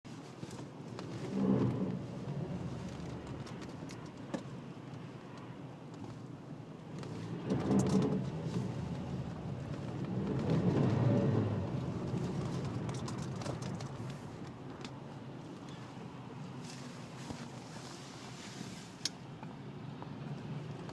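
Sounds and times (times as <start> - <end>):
car low rumble: 0.1 - 20.9.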